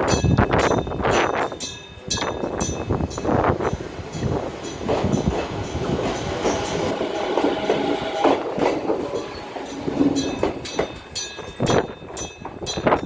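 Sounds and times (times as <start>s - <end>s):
crossing warning bell ringing: 0.0s - 13.0s
train wheels clacking over rails: 0.0s - 13.0s.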